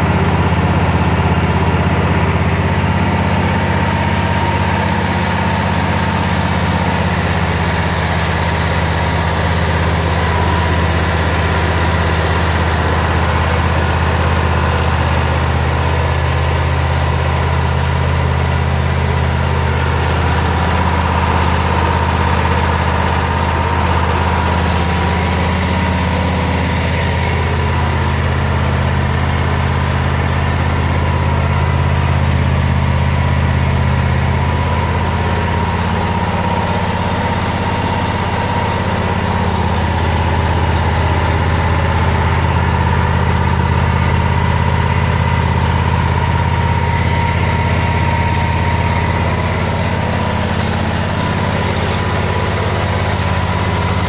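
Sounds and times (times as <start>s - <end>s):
lawn mower engine idling: 0.0s - 54.0s.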